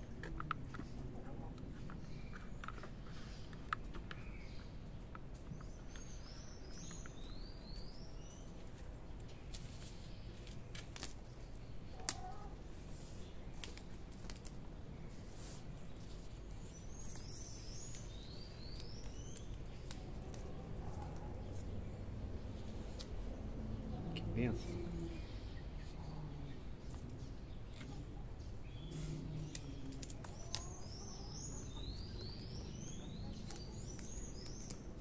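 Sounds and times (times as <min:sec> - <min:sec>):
faint steady background noise: 0:00.0 - 0:35.0
small bird chirping: 0:00.7 - 0:35.0.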